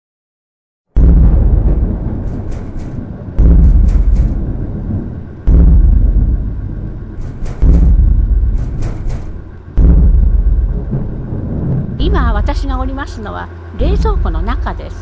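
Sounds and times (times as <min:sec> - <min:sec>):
deep booming hits: 0:01.0 - 0:13.0, 0:13.8 - 0:14.8.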